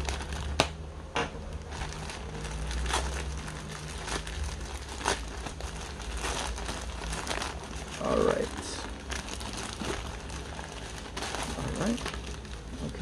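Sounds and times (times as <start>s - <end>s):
packaging crinkling and rustling: 0.0s - 0.7s, 1.4s - 13.0s.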